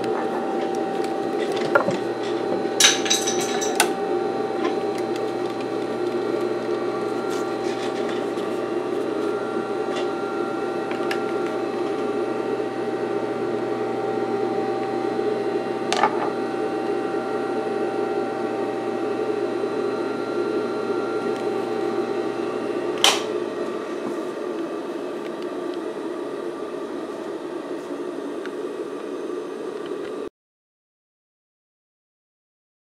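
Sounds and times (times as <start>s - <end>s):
sewing machine motor humming: 0.0s - 27.3s.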